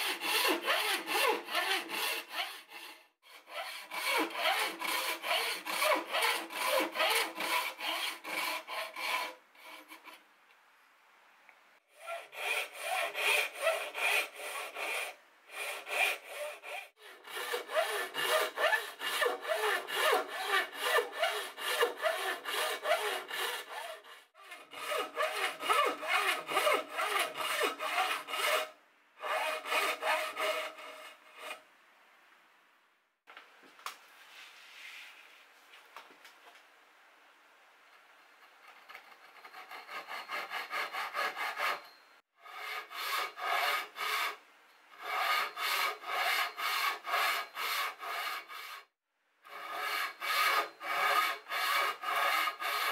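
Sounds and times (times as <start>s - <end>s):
hand saw cutting wood: 0.0s - 10.2s, 11.9s - 31.6s, 38.4s - 44.4s, 45.0s - 48.9s, 49.5s - 52.9s.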